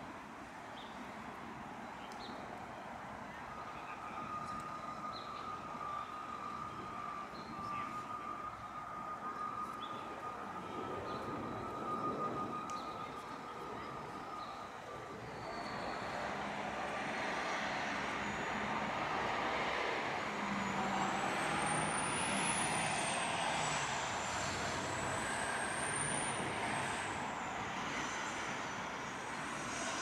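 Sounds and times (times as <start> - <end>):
thin high whine: 4.2 - 30.0.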